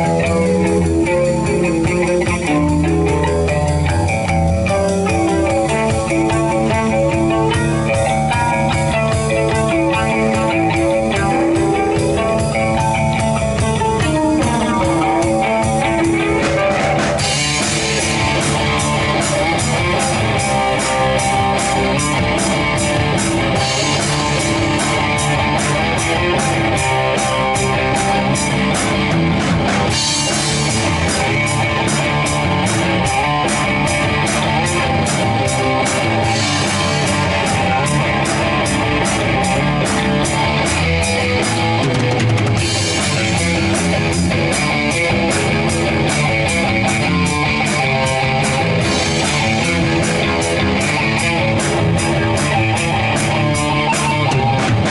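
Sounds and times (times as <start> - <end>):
drum kit beat: 0.0 - 54.9
electric guitar playing: 0.0 - 54.9.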